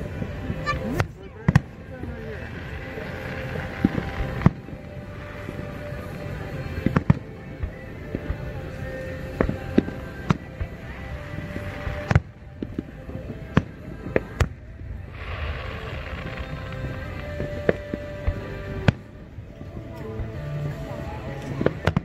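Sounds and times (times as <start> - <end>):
fireworks bangs and crackles: 0.0 - 20.4, 21.4 - 22.0.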